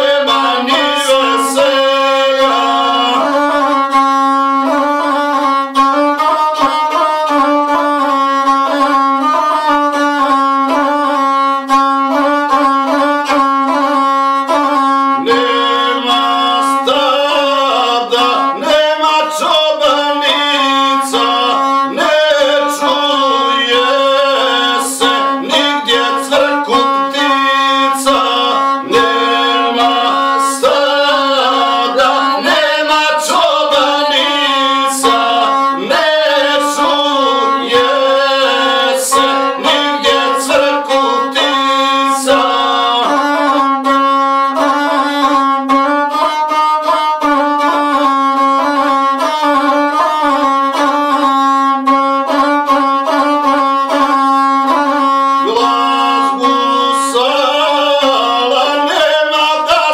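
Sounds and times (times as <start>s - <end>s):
bowed fiddle melody: 0.0s - 59.9s.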